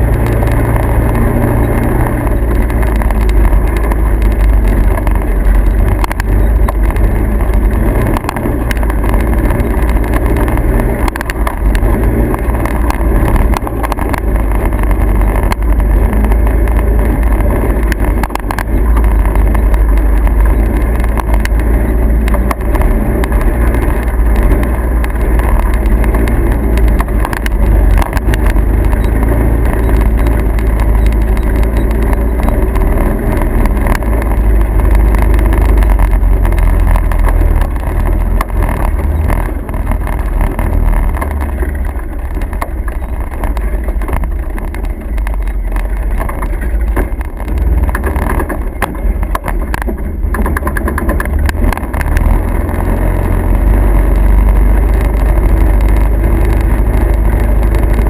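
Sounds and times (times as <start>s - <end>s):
vehicle running with deep noise: 0.0s - 58.0s.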